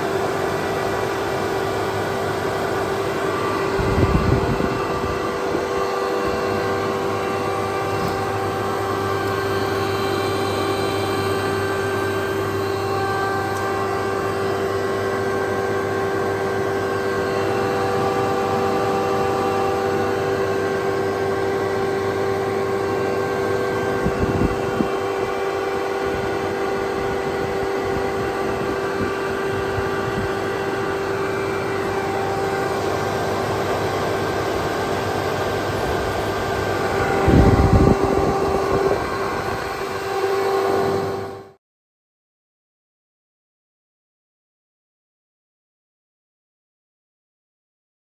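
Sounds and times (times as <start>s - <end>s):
air compressor humming: 0.0s - 41.6s.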